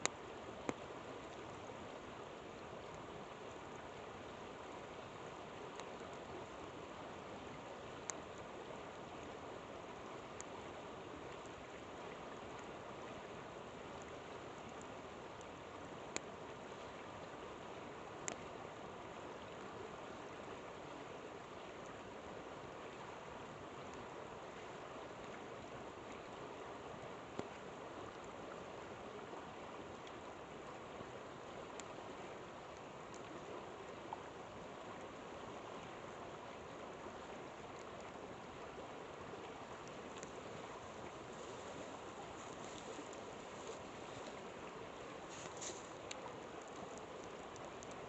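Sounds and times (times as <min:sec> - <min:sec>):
flowing river: 0:00.0 - 0:48.0.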